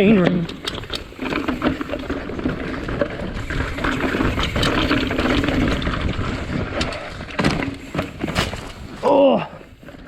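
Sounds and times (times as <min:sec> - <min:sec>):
bike clicks and rattles: 0:00.0 - 0:10.0
tyre noise on dirt trail: 0:00.0 - 0:10.0.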